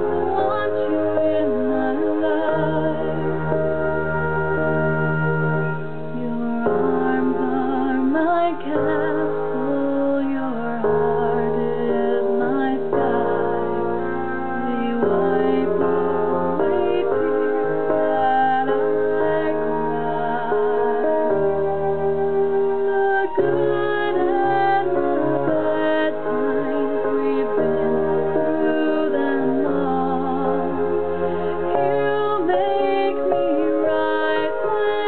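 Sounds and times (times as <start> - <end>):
woman singing a slow ballad: 0.0 - 4.8, 6.0 - 21.6, 22.9 - 35.0
piano backing track: 0.0 - 35.0.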